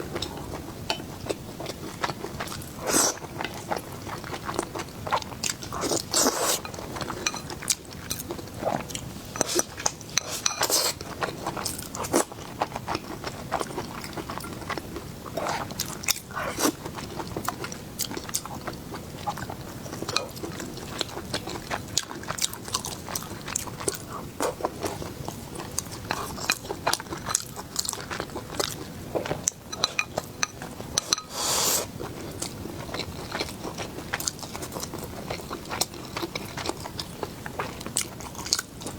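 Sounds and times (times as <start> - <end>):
person chewing crunchy food: 0.1 - 38.9.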